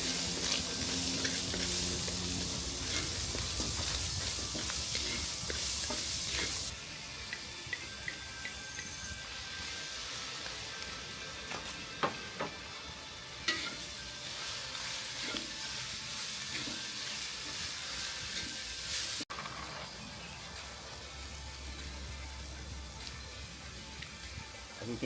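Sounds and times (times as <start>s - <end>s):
mussels sizzling in a pan: 0.0s - 25.0s.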